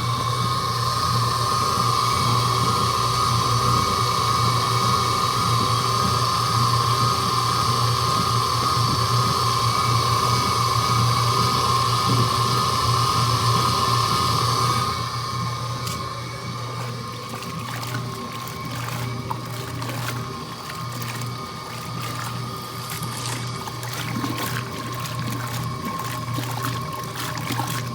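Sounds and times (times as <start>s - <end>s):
spin dryer motor whine: 0.0s - 27.9s.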